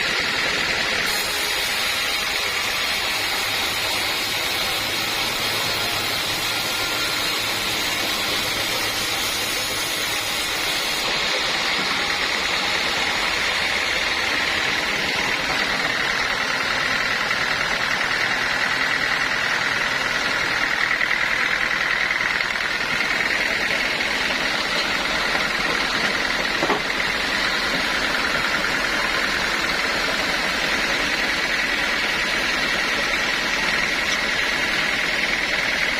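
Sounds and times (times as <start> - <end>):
sawmill machinery whining: 0.0 - 35.9.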